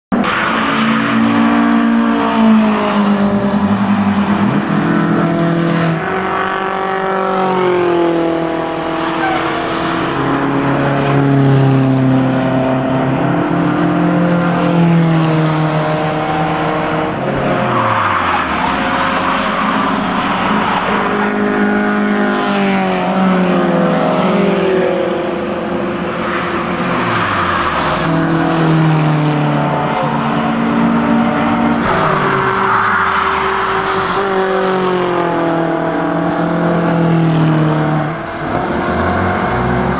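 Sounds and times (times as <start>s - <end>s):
racing car engines accelerating: 0.1s - 39.9s.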